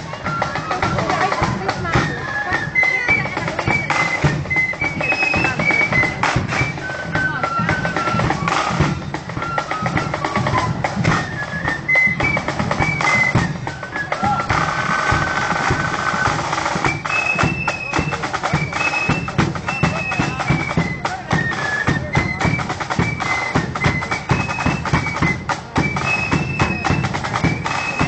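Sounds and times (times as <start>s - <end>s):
marching band melody: 0.0s - 28.0s
snare drum rolls: 3.4s - 28.0s.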